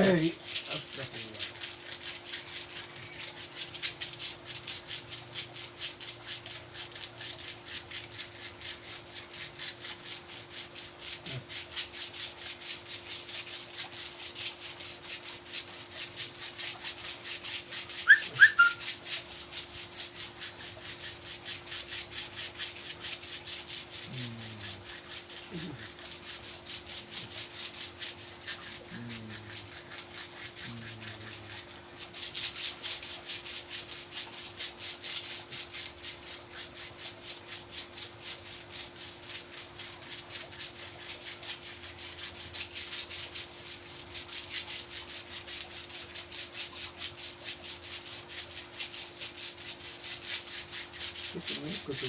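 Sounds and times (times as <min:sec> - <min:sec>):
hand massage rubbing strokes: 0:00.0 - 0:52.0.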